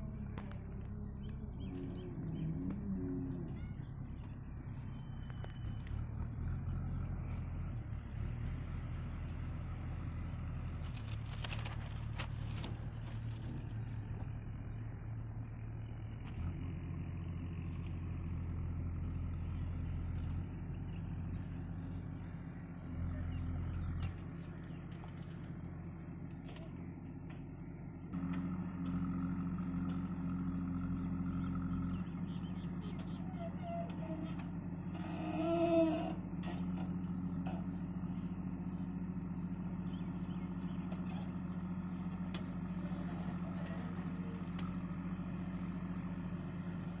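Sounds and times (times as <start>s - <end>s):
diesel engine revving: 0.0s - 47.0s.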